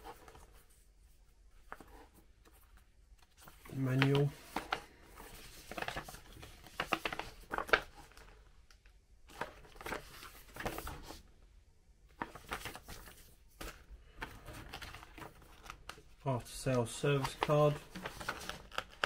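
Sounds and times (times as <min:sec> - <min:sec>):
paper rustling and crackling: 0:01.5 - 0:08.4, 0:09.3 - 0:11.2, 0:12.1 - 0:19.0.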